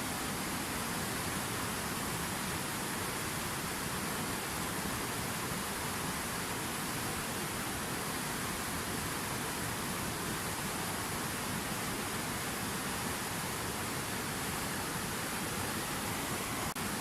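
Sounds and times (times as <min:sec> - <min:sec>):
fountain water rushing: 0:00.0 - 0:17.0.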